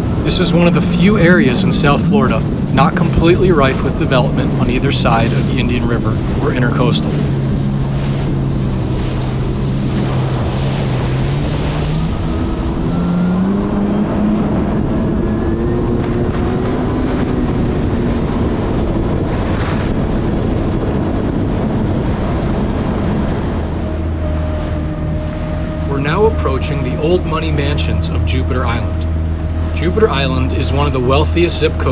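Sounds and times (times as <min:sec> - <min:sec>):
jet ski engine running: 0:00.0 - 0:31.9
water and wind hissing: 0:00.0 - 0:31.9.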